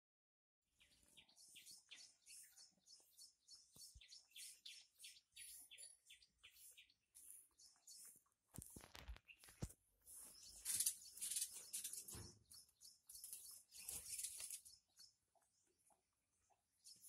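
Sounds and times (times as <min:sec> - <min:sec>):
small birds chirping: 0:00.7 - 0:17.0.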